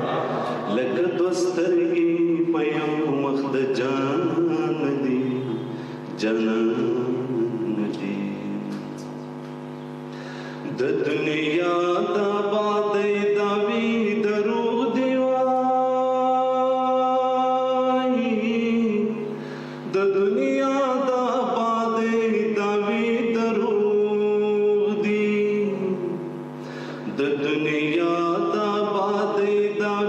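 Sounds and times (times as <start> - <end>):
man singing slow melody: 0.5 - 8.9, 10.6 - 26.3, 27.0 - 30.0.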